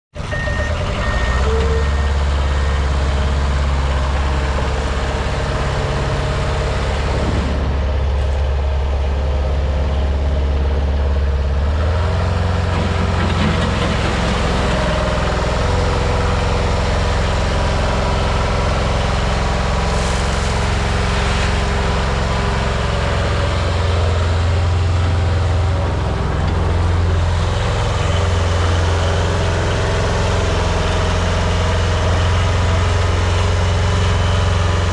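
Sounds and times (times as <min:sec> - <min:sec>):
skid steer engine running: 0:00.2 - 0:34.9.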